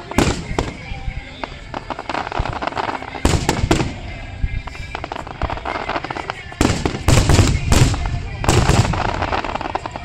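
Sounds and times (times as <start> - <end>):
fireworks bursting with bangs: 0.0 - 10.0
fireworks crackling: 0.0 - 10.0.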